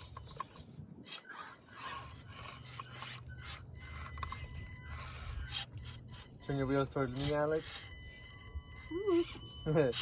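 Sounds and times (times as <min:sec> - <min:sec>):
toy cars scraping over rock: 0:00.0 - 0:10.0.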